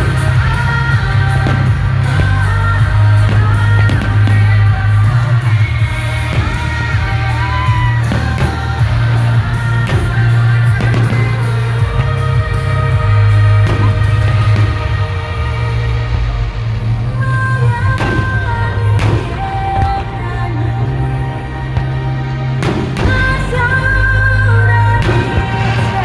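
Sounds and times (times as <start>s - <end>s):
loud music with heavy bass: 0.0s - 26.0s
person singing: 0.0s - 26.0s.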